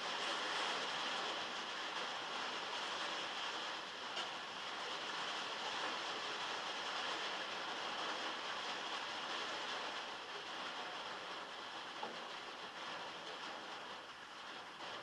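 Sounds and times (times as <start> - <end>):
heavy rain on metal roof: 0.0 - 15.0.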